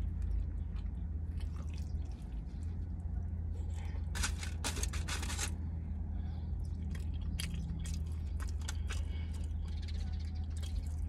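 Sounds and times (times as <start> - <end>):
chewing food: 0.0 - 5.6, 6.4 - 11.0
steady low hum: 0.0 - 11.0.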